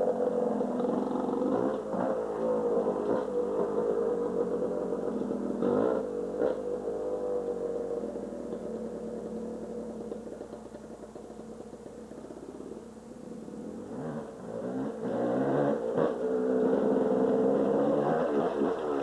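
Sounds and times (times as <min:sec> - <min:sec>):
dirt bike engine revving: 0:00.0 - 0:10.1, 0:13.4 - 0:19.0.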